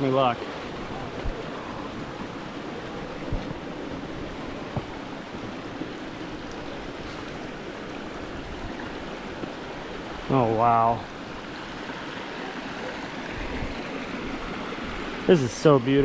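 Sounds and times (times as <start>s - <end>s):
waterfall rushing over rock: 0.0s - 16.0s.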